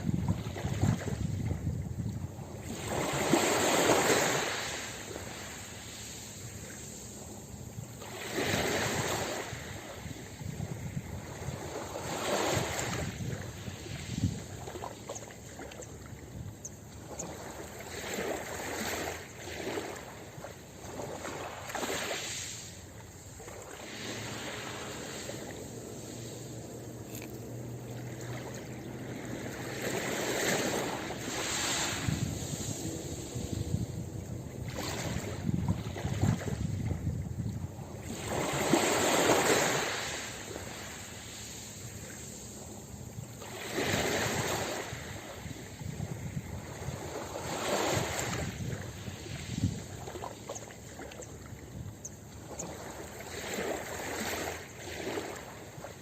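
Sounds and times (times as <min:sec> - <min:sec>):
ocean waves breaking on a beach: 0:00.0 - 0:56.0.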